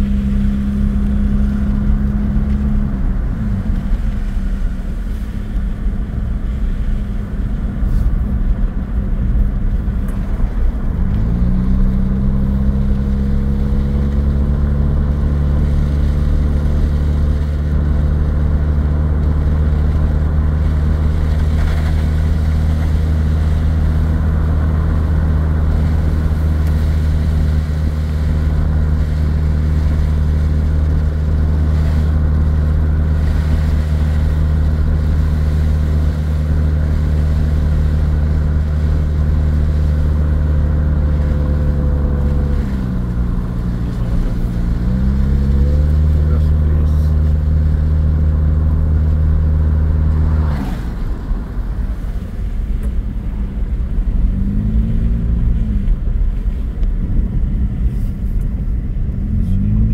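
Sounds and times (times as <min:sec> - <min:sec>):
tyres hissing on wet road: 0:00.0 - 0:59.8
car engine drone: 0:00.0 - 0:59.9.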